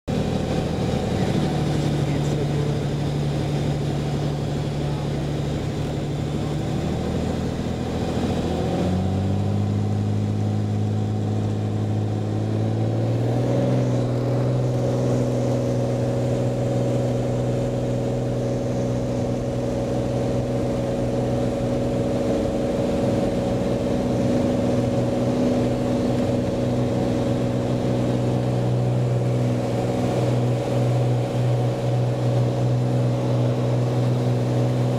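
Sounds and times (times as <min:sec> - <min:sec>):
aircraft piston engine and propeller: 0:00.1 - 0:34.9.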